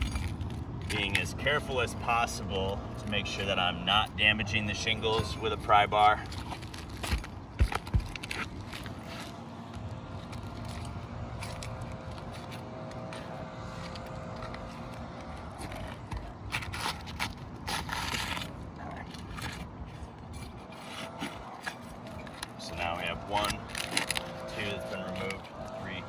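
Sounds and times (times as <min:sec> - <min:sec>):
pry bar scraping under shingles: 0:00.0 - 0:26.0.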